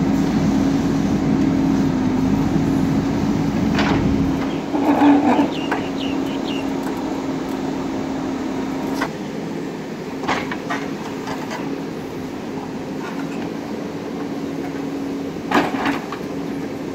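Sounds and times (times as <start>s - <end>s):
diesel engine humming: 0.0s - 16.9s.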